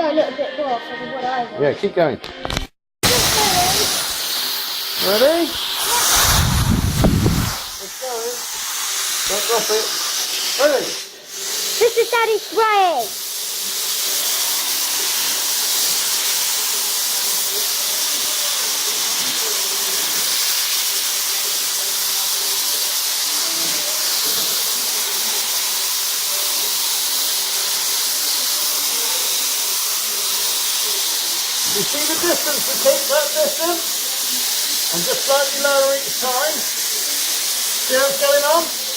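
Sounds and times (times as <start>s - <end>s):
paint spray gun hissing: 3.0s - 38.9s.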